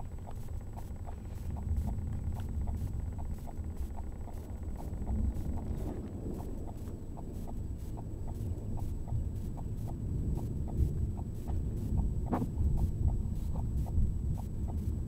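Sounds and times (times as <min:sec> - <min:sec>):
wind and car rumble: 0:00.0 - 0:15.0.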